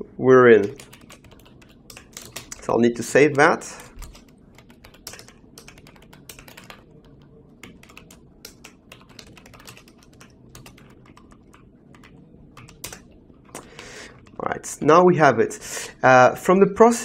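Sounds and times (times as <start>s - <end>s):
keyboard typing: 0.5s - 14.4s.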